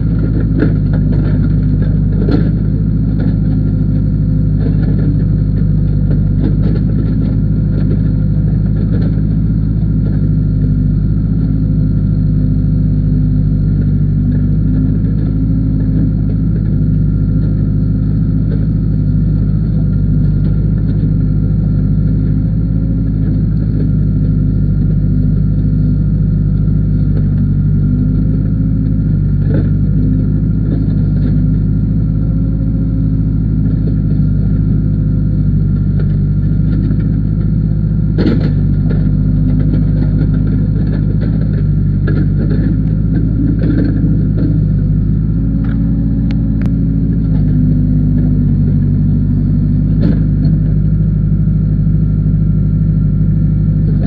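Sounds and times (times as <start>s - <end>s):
backhoe diesel engine running: 0.0s - 54.0s.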